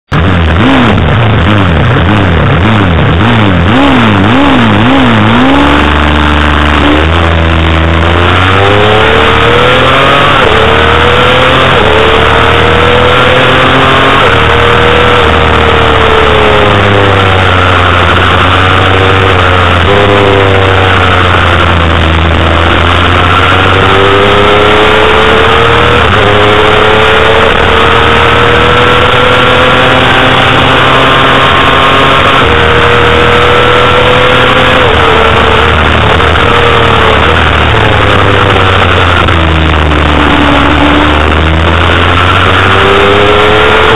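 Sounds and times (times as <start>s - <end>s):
motorcycle engine revving: 0.0s - 43.9s
steady rush of noise: 0.1s - 43.9s.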